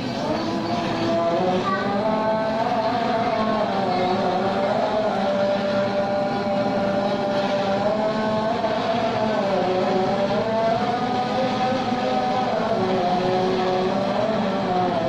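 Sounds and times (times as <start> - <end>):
motor whining over hum: 0.0 - 15.0.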